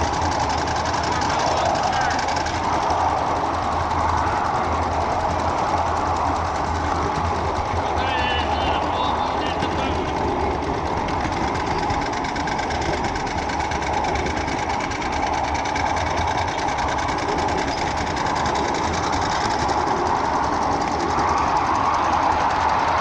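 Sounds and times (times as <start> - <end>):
railroad car wheels clattering: 0.0 - 23.0.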